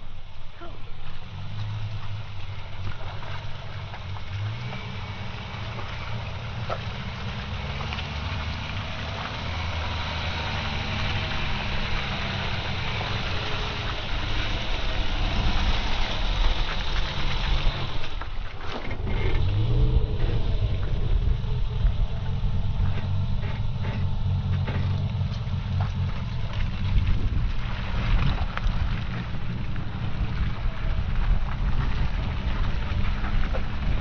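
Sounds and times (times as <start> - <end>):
rush of travel noise: 0.0 - 34.0
vehicle engine at low revs: 0.0 - 34.0.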